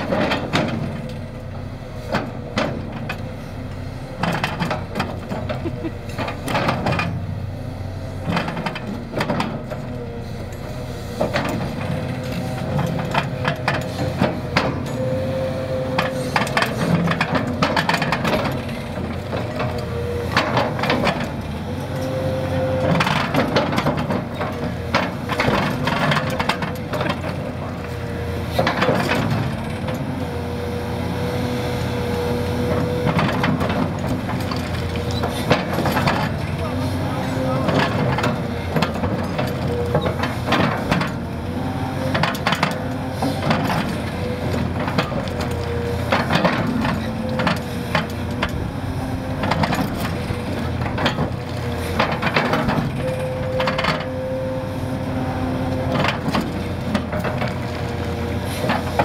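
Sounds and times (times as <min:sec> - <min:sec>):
excavator diesel engine under load: 0:00.0 - 0:59.0.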